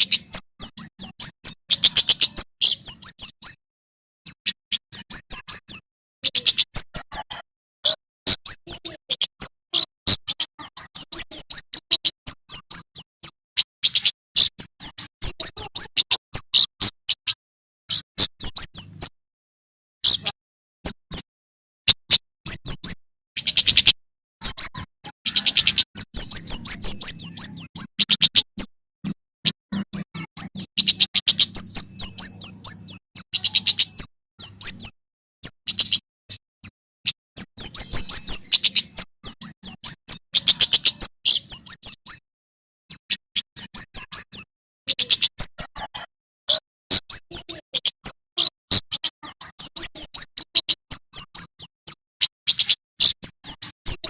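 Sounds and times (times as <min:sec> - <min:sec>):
bird singing high chirps: 0:00.0 - 0:03.6, 0:04.3 - 0:19.2, 0:20.0 - 0:42.2, 0:42.9 - 0:54.0.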